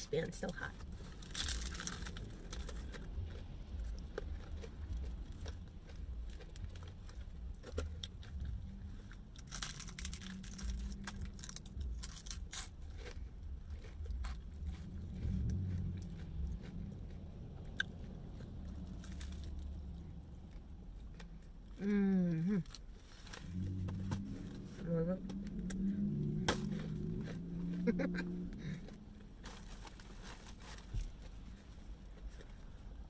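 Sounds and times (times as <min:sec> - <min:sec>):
low hum: 0:00.0 - 0:33.0
person chewing crispy chicken: 0:00.8 - 0:33.0.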